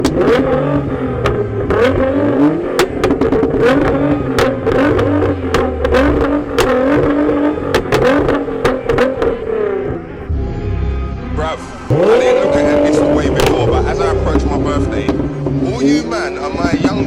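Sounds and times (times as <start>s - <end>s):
sharp exhaust pops: 0.0s - 10.1s, 12.0s - 17.0s
car engine revving: 0.0s - 17.0s.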